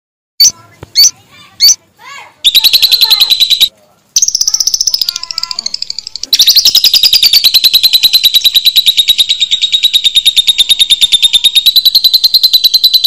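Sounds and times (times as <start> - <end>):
lovebird chattering trill: 0.4 - 1.8, 2.4 - 13.0.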